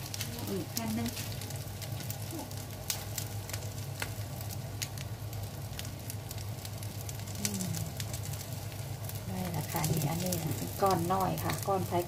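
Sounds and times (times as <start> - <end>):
crackling pops: 0.0 - 12.0
patties sizzling in oil: 0.0 - 12.0
steady low hum: 0.0 - 12.0.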